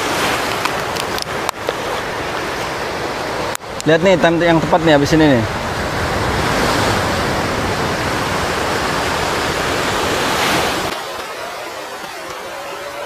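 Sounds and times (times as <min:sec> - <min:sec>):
sea surf rushing onto beach: 0:00.0 - 0:13.0.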